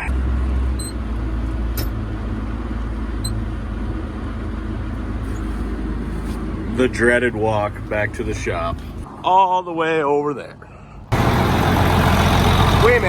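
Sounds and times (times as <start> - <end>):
farm vehicle engine humming: 0.0 - 9.2, 10.8 - 13.0.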